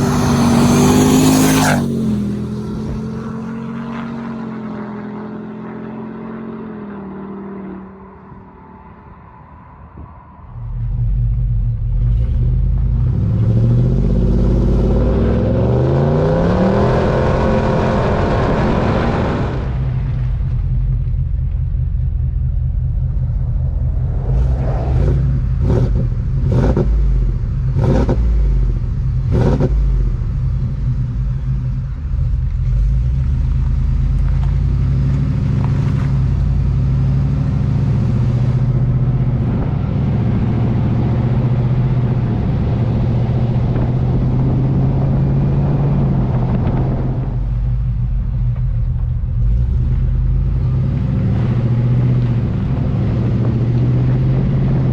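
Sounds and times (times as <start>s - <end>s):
engine low rumble: 0.0s - 54.9s.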